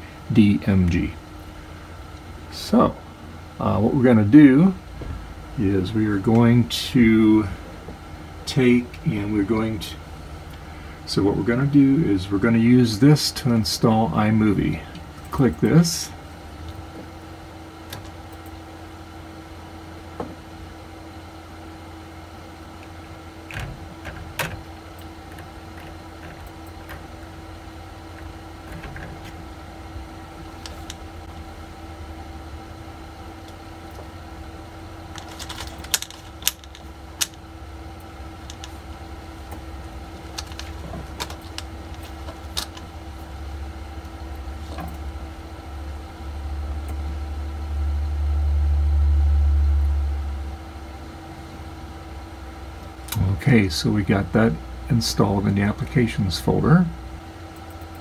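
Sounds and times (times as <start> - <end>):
low room hum with faint whine: 0.0 - 58.0.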